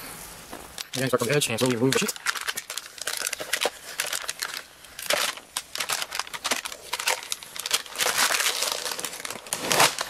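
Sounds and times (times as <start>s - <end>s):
plastic film peeling and crackling: 0.8s - 10.0s.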